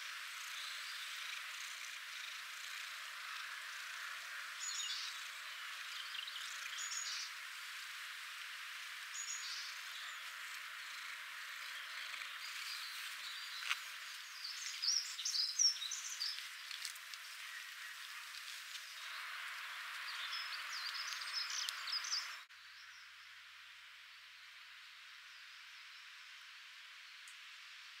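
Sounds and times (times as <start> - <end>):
small birds chirping: 0.0 - 23.4
background hiss: 0.0 - 28.0.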